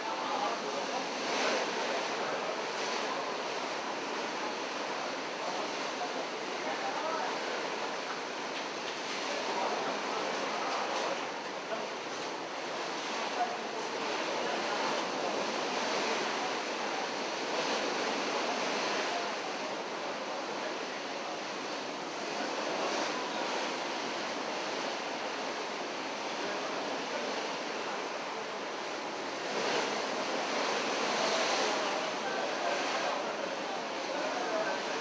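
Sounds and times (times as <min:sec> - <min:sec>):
sea waves rushing: 0:00.0 - 0:35.0
wind: 0:00.0 - 0:35.0.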